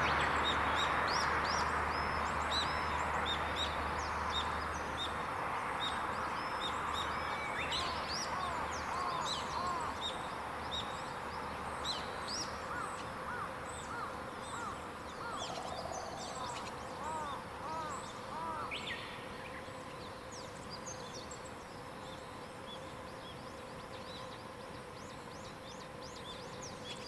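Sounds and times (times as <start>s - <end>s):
birds singing: 0.0s - 27.0s
steady background hiss: 0.0s - 27.0s.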